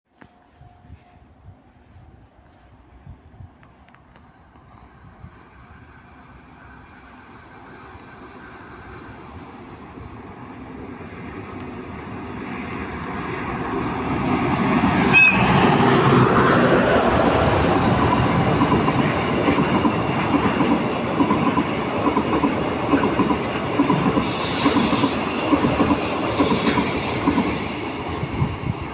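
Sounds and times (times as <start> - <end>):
freight train passing: 0.4 - 28.9.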